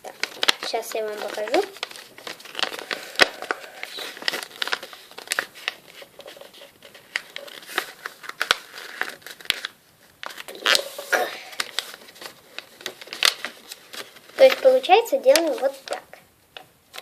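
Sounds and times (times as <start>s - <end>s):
paper folding and crinkling: 0.0s - 17.0s.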